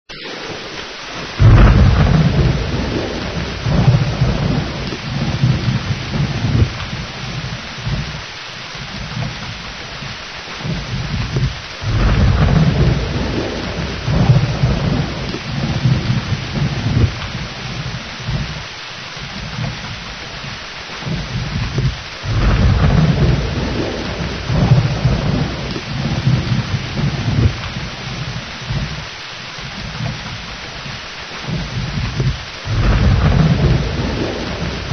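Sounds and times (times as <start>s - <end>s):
heavy rain: 0.0s - 34.9s
thunder cracking and rumbling: 0.1s - 34.9s.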